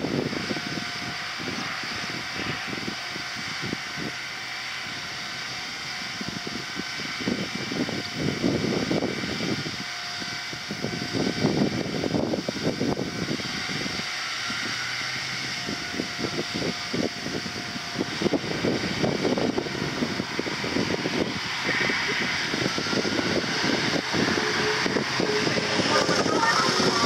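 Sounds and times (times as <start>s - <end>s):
train humming: 0.0s - 27.0s
wind buffeting microphone: 0.0s - 27.0s.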